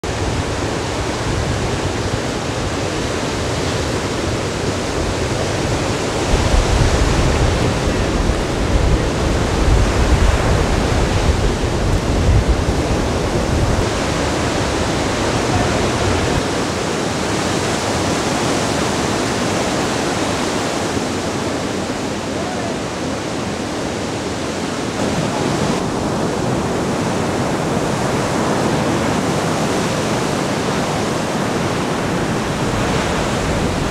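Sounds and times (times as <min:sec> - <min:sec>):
ocean surf breaking: 0:00.0 - 0:33.9.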